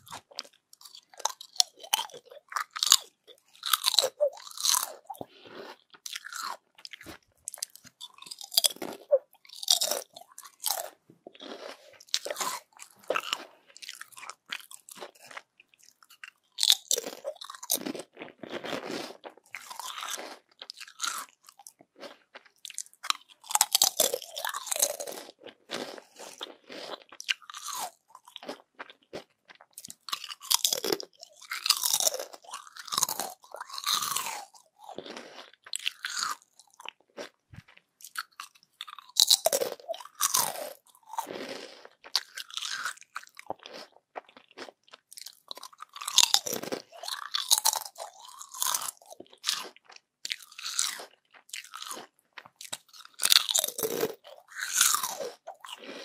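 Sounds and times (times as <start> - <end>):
crispy chips being chewed: 0.0 - 56.0.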